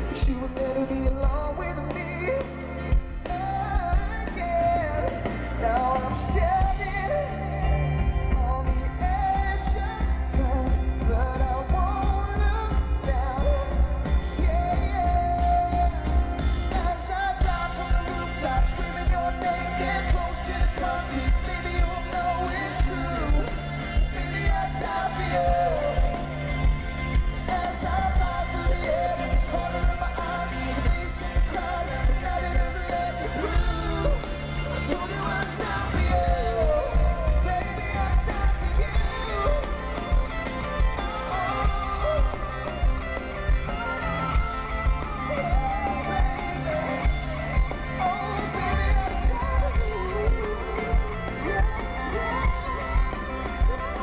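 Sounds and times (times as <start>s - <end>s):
live pop rock band: 0.0s - 54.0s.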